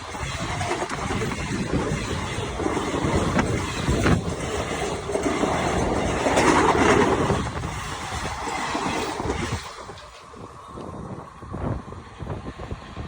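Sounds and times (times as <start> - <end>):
sharp rail clicks: 0.0 - 11.0
train rumbling on rails: 0.0 - 13.0.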